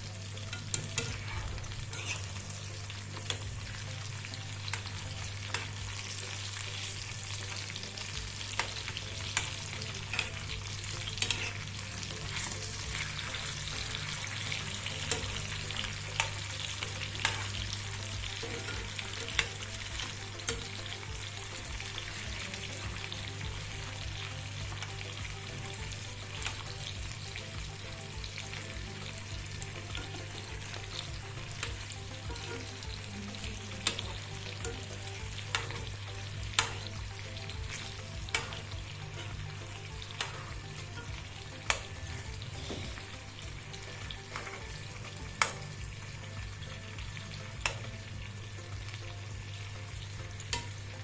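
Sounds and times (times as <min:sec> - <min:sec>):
chicken sizzling in oil: 0:00.0 - 0:51.0.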